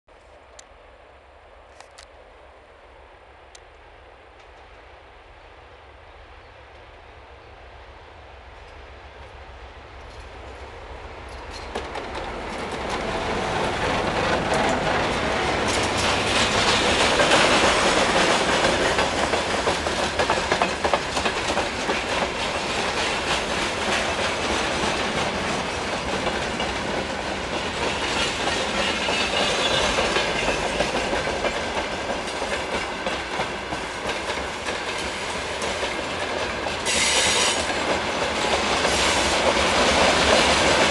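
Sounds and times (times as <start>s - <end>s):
diesel locomotive approaching: 0.2s - 40.9s.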